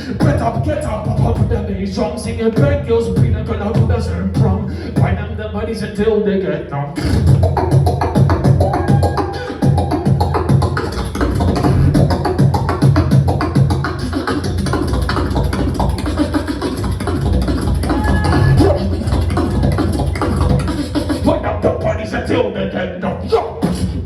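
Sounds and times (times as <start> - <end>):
beatboxing drum hits: 0.0 - 5.6, 7.0 - 22.4, 23.0 - 24.0
deep vocal bass line: 0.0 - 24.0.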